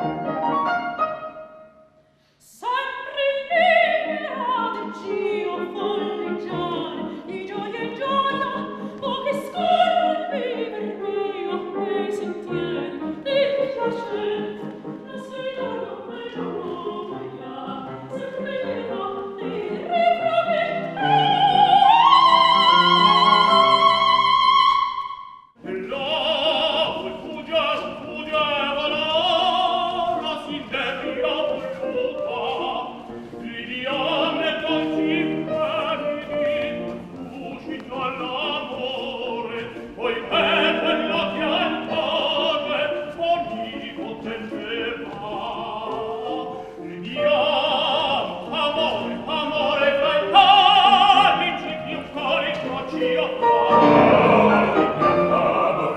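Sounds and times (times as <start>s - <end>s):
operatic singing with vibrato: 0.0s - 55.9s.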